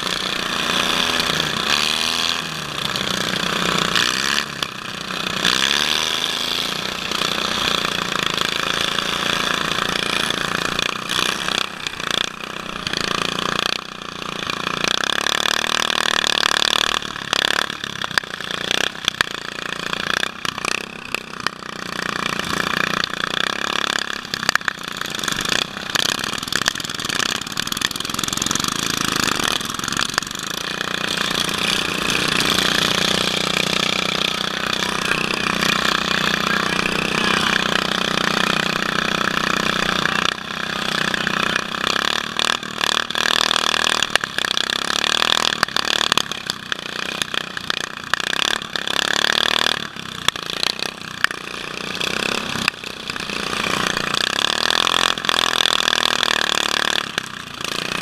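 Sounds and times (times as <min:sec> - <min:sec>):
mower knocking and rattling: 0:00.0 - 0:58.0
small engine running: 0:00.0 - 0:58.0.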